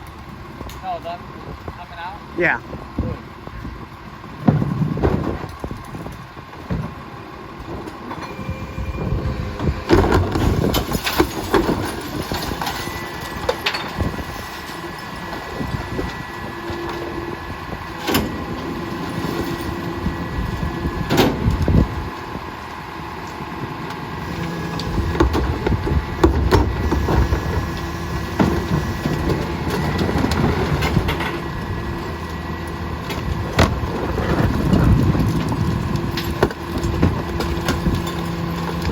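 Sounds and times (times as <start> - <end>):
garbage truck engine running: 0.0 - 38.9.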